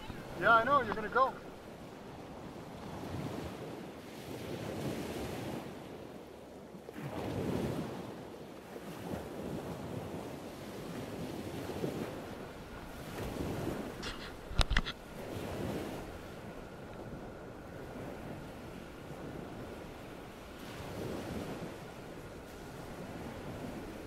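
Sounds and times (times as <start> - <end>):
river water rushing and lapping: 0.0 - 24.0
wind buffeting microphone: 0.0 - 24.0.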